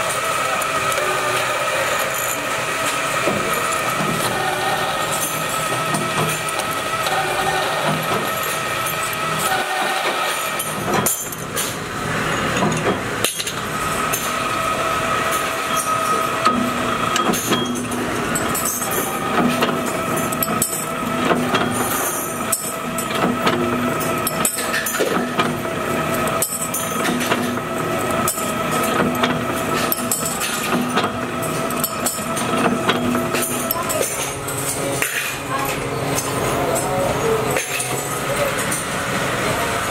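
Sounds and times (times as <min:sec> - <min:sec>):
workshop machinery humming: 0:00.0 - 0:39.9.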